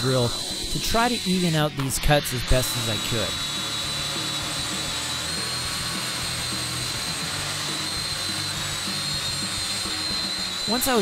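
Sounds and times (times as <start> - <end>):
drill motor whine: 0.0 - 11.0.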